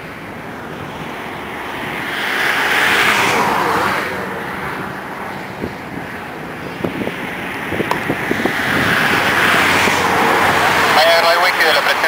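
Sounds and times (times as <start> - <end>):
distant jet engines rumbling: 0.0 - 12.0
rushing noise: 0.0 - 12.0.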